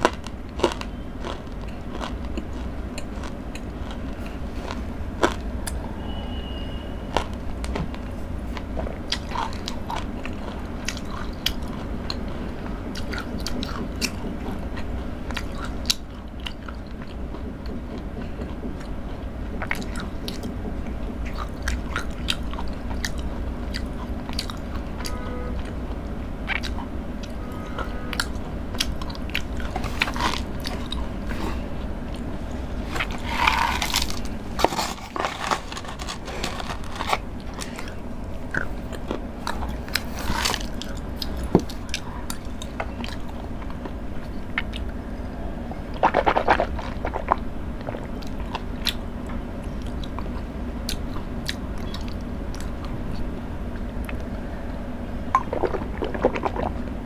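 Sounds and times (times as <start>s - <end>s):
chewing and crunching chocolate: 0.0s - 5.8s, 7.1s - 57.0s
steady low hum: 0.0s - 57.0s.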